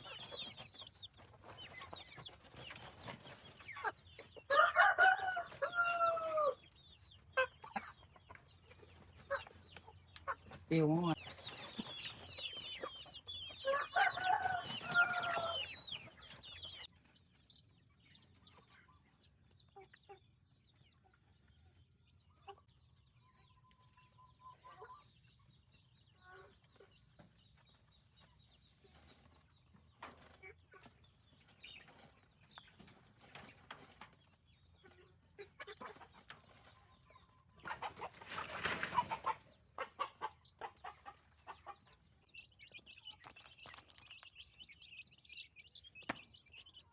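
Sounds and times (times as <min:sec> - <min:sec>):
chickens clucking and squawking: 0:00.0 - 0:46.9.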